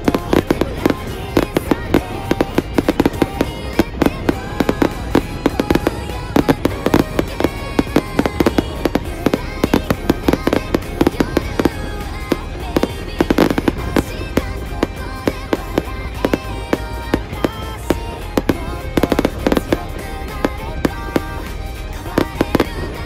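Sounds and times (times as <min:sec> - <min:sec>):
background music: 0:00.0 - 0:23.0
fireworks bangs and crackles: 0:00.0 - 0:23.0.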